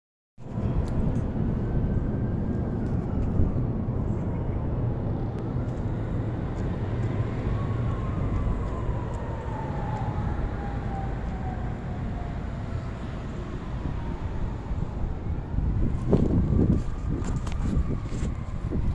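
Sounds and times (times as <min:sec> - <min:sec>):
traffic rumble: 0:00.4 - 0:18.9.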